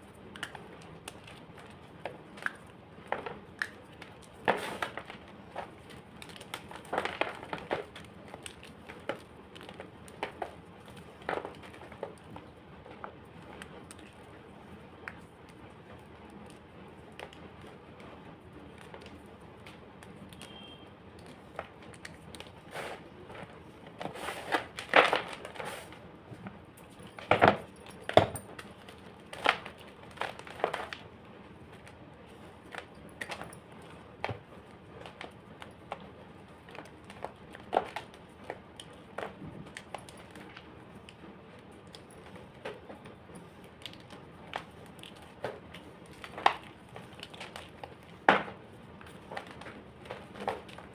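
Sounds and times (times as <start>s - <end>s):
chalk crunching and crackling: 0.0s - 27.8s, 28.6s - 50.9s.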